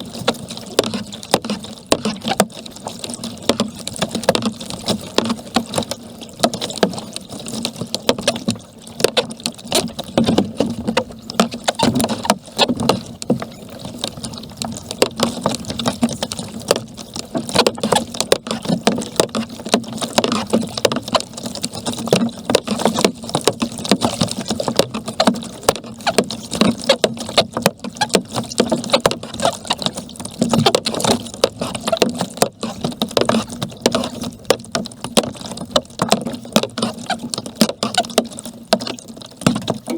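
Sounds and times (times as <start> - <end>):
paddle splashing in water: 0.0 - 39.9
water lapping at hull: 0.0 - 39.9.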